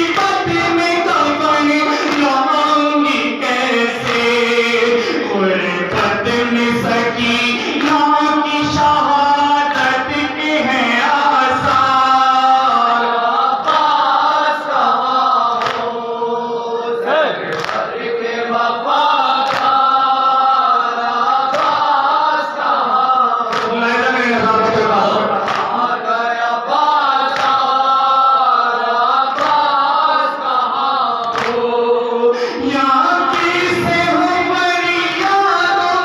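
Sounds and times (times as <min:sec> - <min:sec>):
men chanting in unison: 0:00.0 - 0:36.0.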